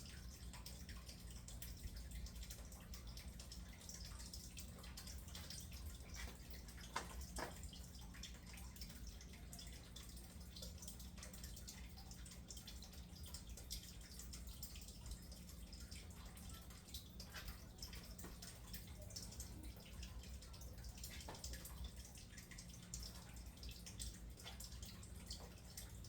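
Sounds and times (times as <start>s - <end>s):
faint drips: 0.0s - 26.0s.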